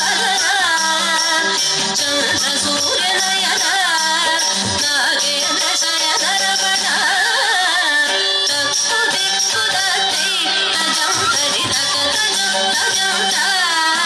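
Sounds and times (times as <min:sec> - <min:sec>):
person singing ornamented melody: 0:00.0 - 0:14.0.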